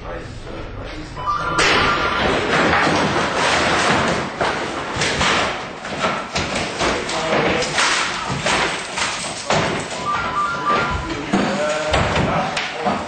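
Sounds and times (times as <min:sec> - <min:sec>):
thuds and bangs on desks: 0:01.7 - 0:13.0.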